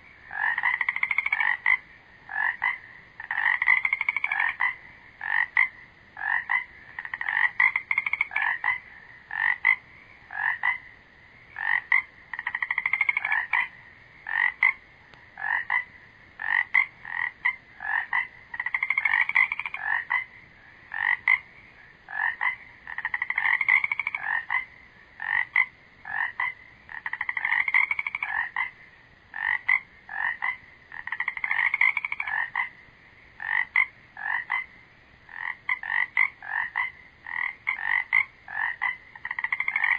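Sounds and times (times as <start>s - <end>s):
frogs croaking and trilling: 0.0s - 39.9s.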